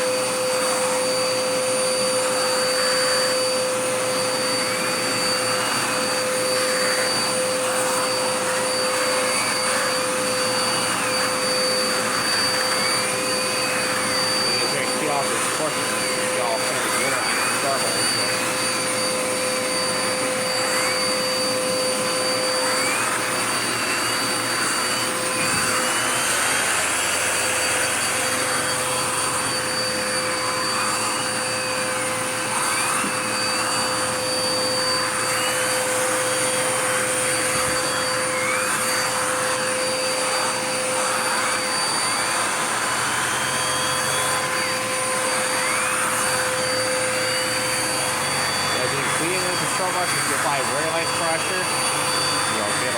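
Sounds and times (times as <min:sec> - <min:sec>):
vacuum cleaner whine: 0:00.0 - 0:52.9.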